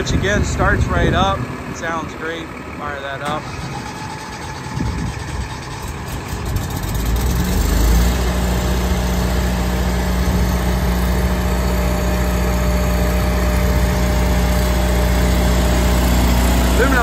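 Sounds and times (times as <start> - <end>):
generator engine starting and droning: 0.0 - 17.0.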